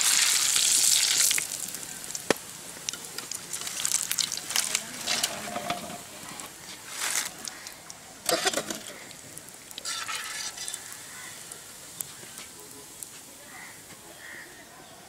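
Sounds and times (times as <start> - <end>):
egg rolls sizzling in hot oil: 0.0 - 14.4.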